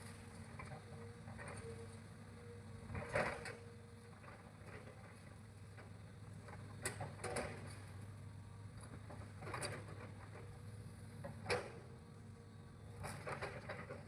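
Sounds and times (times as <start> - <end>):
excavator engine humming: 0.0 - 14.0.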